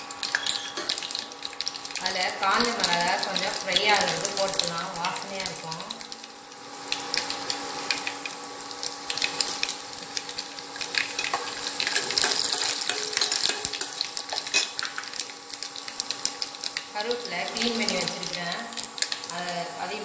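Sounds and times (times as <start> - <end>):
seeds sizzling and popping in oil: 0.0 - 20.0.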